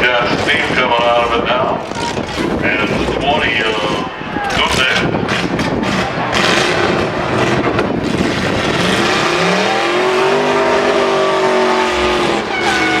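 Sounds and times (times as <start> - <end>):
engine revving: 0.0 - 13.0
truck engines running loud: 0.0 - 13.0.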